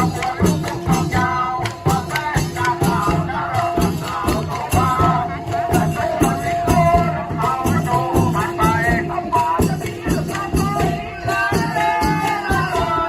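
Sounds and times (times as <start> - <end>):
cymbals jingling: 0.0 - 13.0
drums beating: 0.0 - 13.0.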